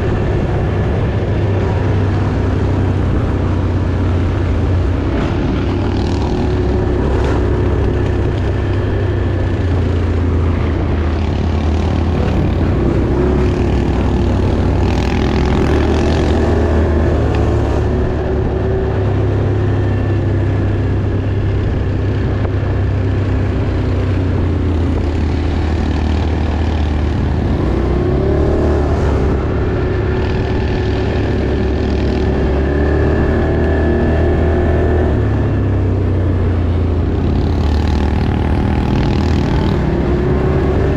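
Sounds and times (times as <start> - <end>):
off-road vehicle engine drone: 0.0 - 40.9.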